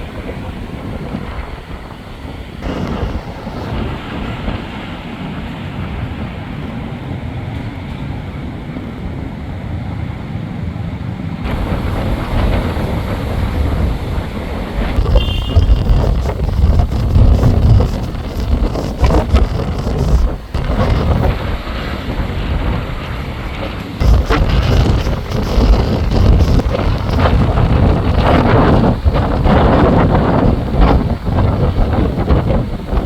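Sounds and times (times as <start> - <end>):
passing traffic rumble: 0.0 - 33.0.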